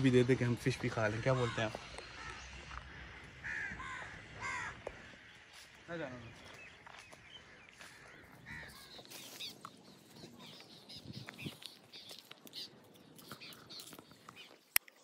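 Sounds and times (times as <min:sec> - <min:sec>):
low rural background: 0:00.0 - 0:15.0.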